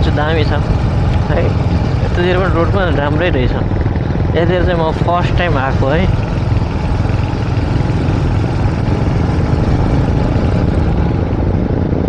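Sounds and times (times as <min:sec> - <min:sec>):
motorcycle engine rumbling: 0:00.0 - 0:12.0
road noise: 0:00.0 - 0:12.0
rushing wind: 0:00.0 - 0:12.0.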